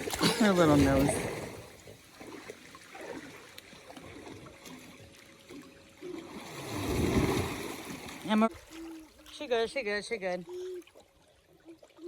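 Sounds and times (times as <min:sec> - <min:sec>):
pool water trickling and lapping: 0:00.0 - 0:12.0.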